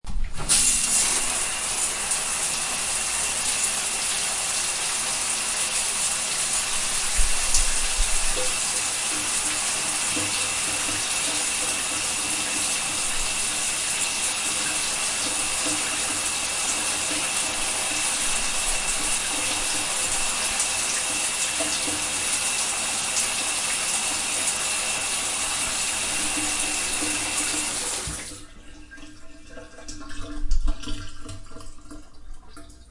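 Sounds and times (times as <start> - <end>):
shower spray hissing: 0.4 - 28.3.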